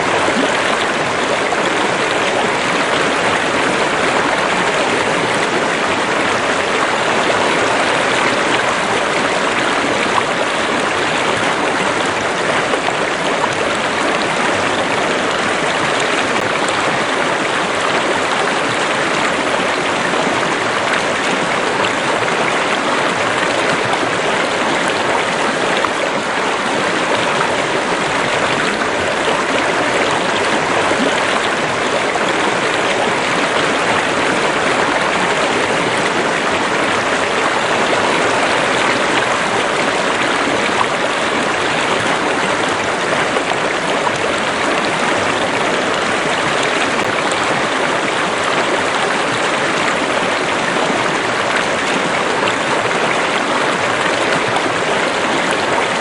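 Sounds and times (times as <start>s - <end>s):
river water over stones: 0.0s - 56.0s.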